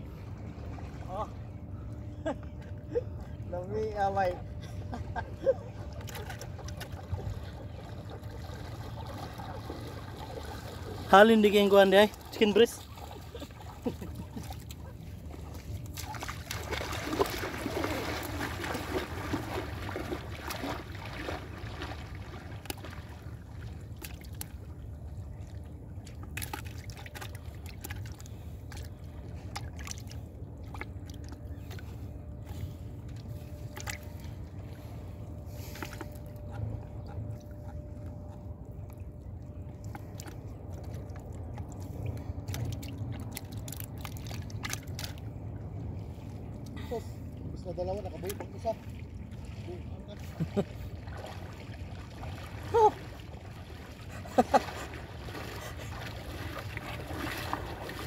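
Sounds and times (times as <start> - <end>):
seawater lapping at shore: 0.0 - 58.0
steady low rumble: 0.0 - 58.0.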